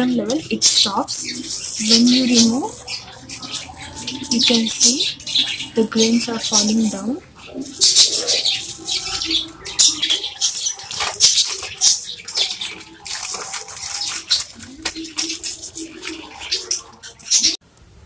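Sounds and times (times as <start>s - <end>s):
grains trickling: 0.1s - 17.6s
bird seed rustling and pattering: 0.6s - 17.6s.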